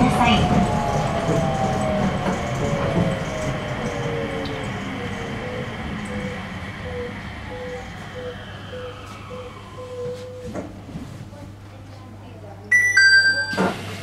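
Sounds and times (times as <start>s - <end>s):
rumble of tyres and car body: 0.0s - 11.4s
train motor whine: 0.0s - 11.4s.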